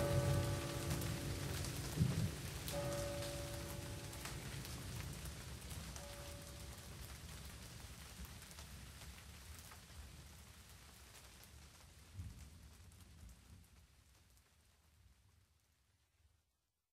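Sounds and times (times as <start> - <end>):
rain pattering: 0.0 - 16.2.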